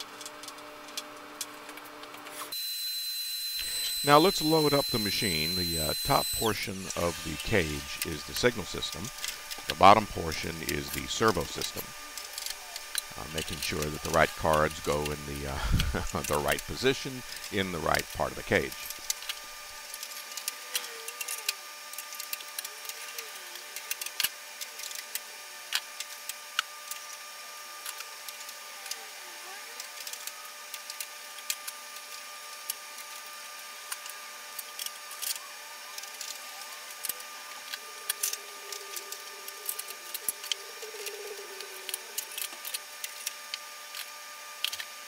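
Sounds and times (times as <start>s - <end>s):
faint steady hum: 0.2s - 45.0s.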